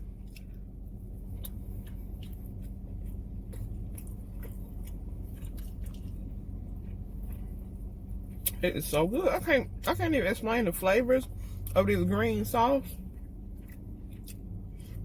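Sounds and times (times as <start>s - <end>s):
close chewing: 0.0s - 8.6s, 11.2s - 15.0s
steady low hum: 0.0s - 15.0s.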